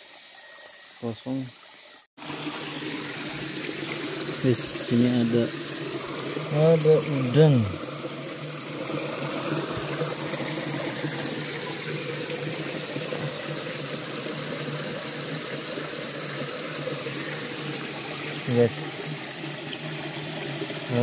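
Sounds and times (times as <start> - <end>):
river water flowing: 2.2 - 21.0.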